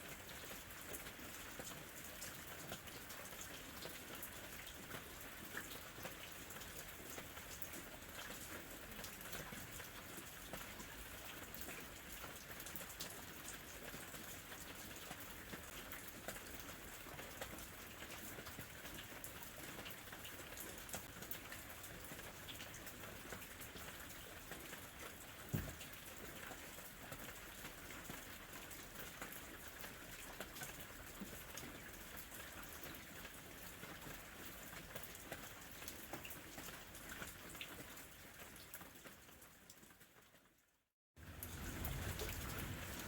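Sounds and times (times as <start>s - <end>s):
rain falling steadily: 0.0s - 43.0s.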